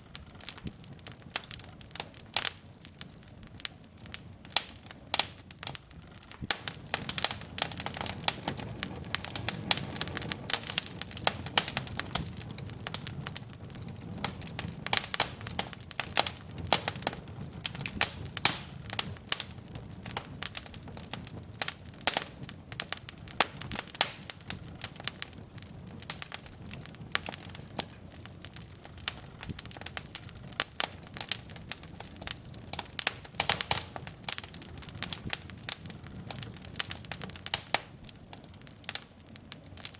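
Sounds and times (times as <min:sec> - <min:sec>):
low rush of flame: 0:00.0 - 0:39.9
wood logs crackling and popping: 0:00.0 - 0:39.9.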